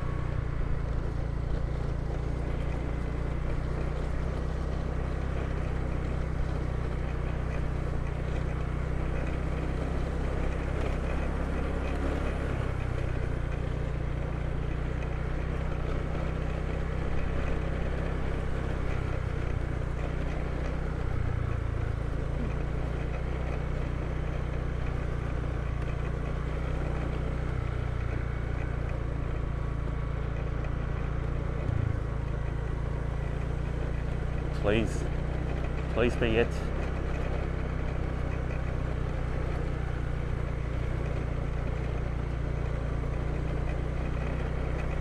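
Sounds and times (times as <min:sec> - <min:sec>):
motorbike engine low rumble: 0:00.0 - 0:45.0.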